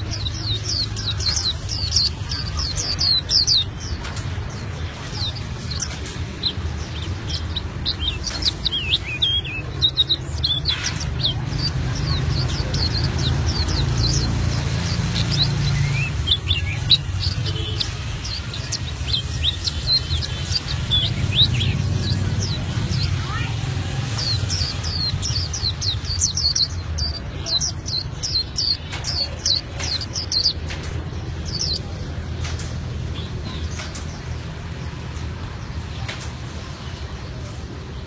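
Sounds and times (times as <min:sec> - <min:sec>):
bird singing rapid high chirps: 0:00.0 - 0:38.0.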